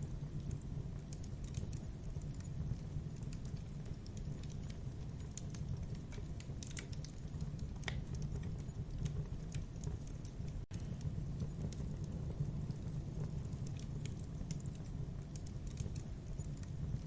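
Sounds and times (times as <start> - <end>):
campfire low rumble: 0.0 - 17.0
fire crackling and popping: 0.0 - 17.0.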